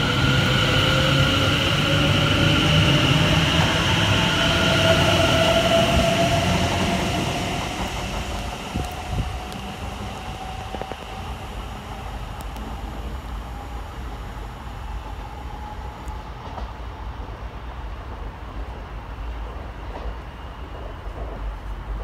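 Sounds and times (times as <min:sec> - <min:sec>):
train rail rumble: 0:00.0 - 0:22.0.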